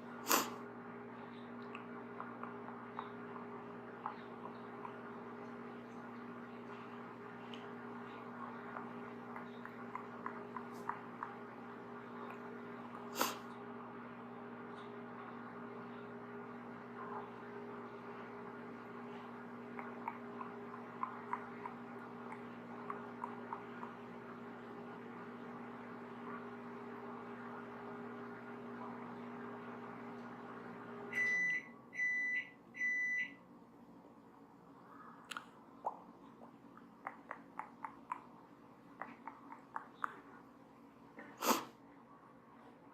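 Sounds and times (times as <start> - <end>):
microwave oven humming: 0.0 - 42.9.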